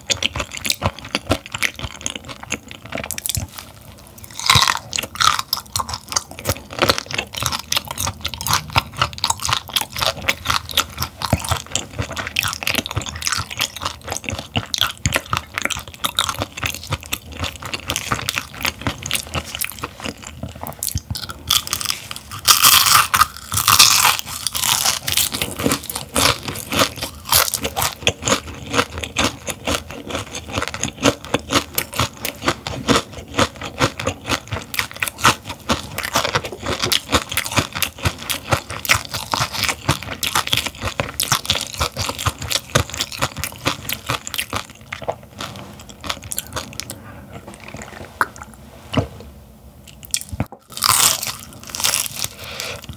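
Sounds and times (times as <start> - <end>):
chewing and crunching fish bones: 0.0 - 47.8, 49.9 - 52.9.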